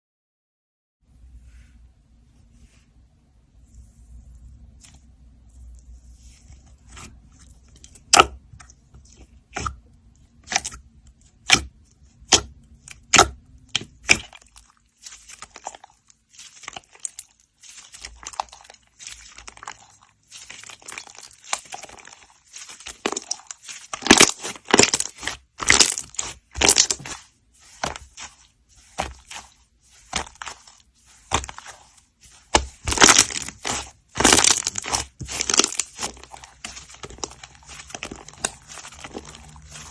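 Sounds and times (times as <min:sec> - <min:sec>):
slime squishing with pops: 0:05.8 - 0:39.9.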